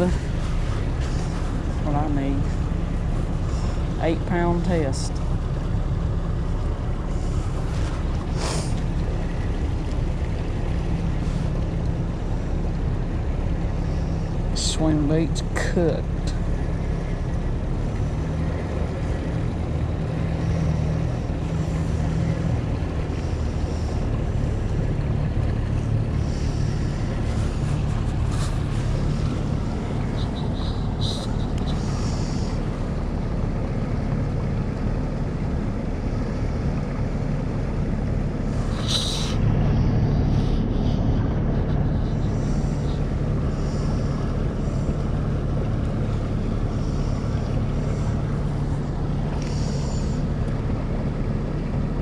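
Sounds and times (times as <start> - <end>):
outboard motor running: 0.0 - 52.0
water and wind noise: 0.0 - 52.0.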